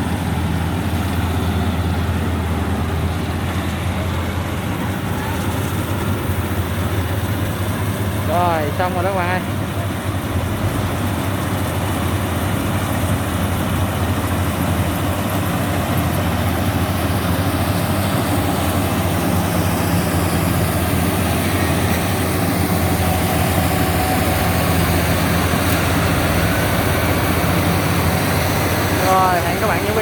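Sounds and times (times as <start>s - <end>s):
combine harvester engine humming: 0.0s - 30.0s.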